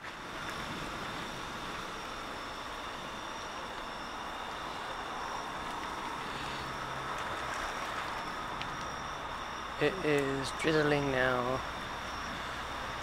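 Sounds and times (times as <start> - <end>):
light drizzle hissing: 0.0 - 13.0.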